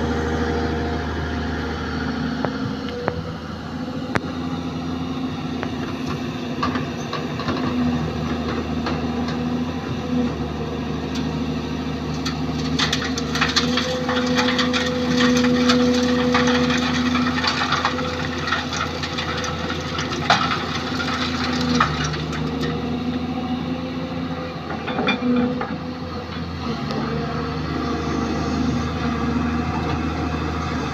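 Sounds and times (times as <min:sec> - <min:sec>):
excavator diesel engine running: 0:00.0 - 0:30.9.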